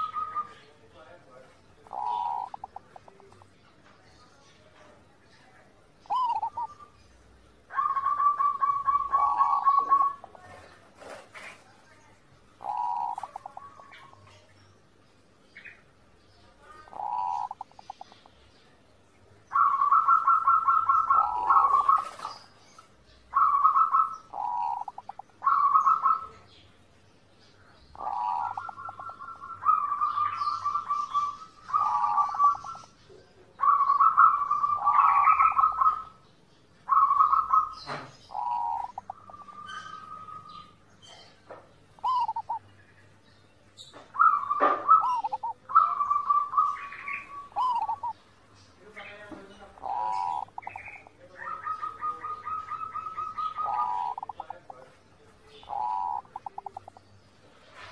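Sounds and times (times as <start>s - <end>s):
doves cooing: 0.0s - 0.8s, 1.5s - 3.6s, 6.0s - 14.6s, 16.6s - 18.4s, 19.5s - 26.6s, 27.7s - 36.2s, 36.8s - 42.7s, 43.8s - 48.4s, 49.0s - 57.9s.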